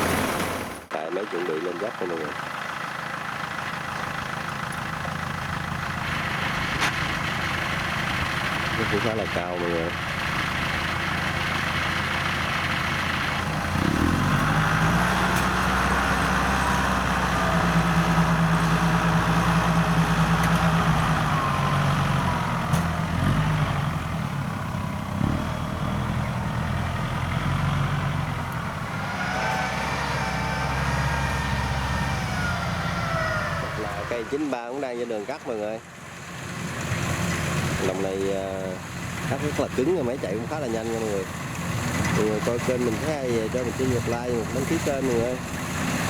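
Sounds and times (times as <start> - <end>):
combine harvester diesel engine: 0.0 - 46.0.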